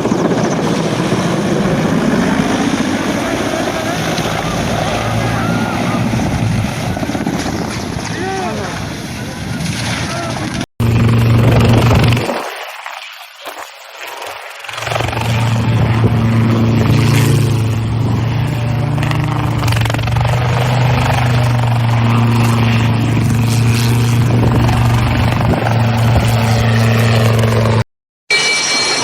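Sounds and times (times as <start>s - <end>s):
aircraft engine noise: 0.0s - 29.0s.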